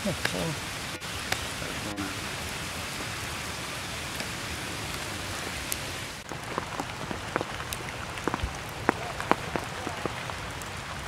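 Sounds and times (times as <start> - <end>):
raindrops ticking close by: 0.0 - 11.0
steady rain hiss: 0.0 - 11.0.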